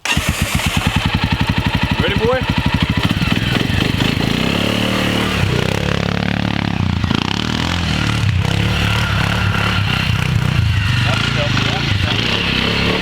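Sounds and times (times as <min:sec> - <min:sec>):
small vehicle engine revving: 0:00.0 - 0:13.0.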